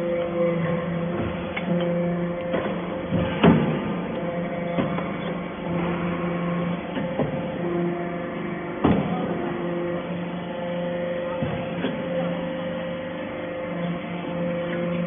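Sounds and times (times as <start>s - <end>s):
baler machine hum: 0.0s - 15.0s.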